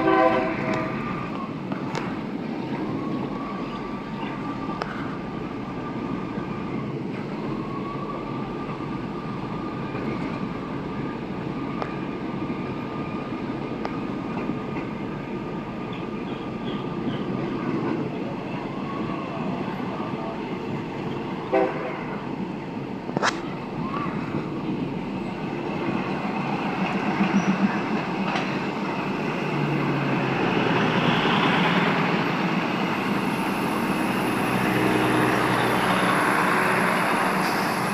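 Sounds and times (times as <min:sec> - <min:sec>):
train running on track: 0:00.0 - 0:37.9.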